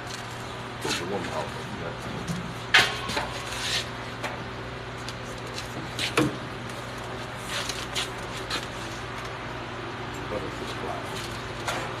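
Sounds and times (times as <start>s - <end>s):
low hum of workshop equipment: 0.0s - 12.0s.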